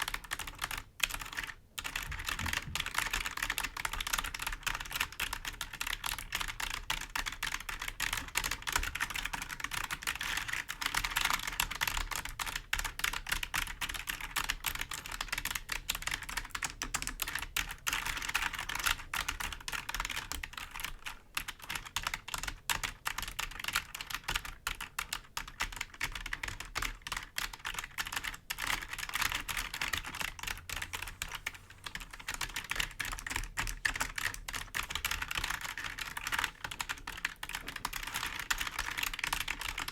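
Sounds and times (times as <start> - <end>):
fingernails tapping keyboard keys: 0.0 - 39.9.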